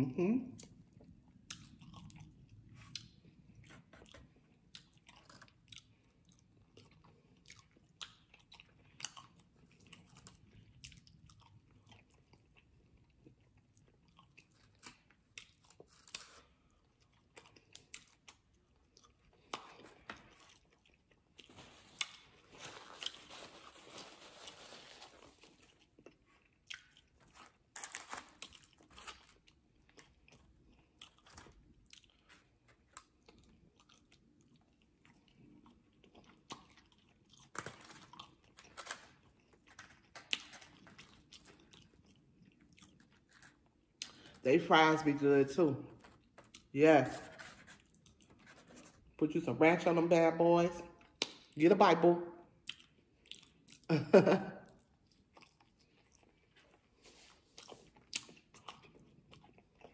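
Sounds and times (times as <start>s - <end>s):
chewing and crunching food: 0.4s - 50.0s, 50.7s - 51.6s, 52.3s - 59.9s.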